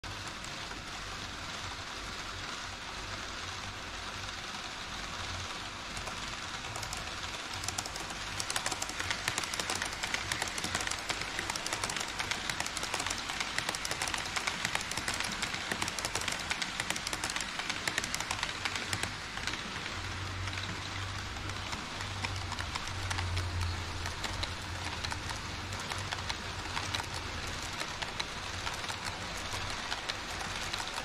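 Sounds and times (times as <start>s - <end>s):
model train rolling hiss: 0.1s - 31.0s
wheels clicking over rail joints: 6.0s - 31.0s.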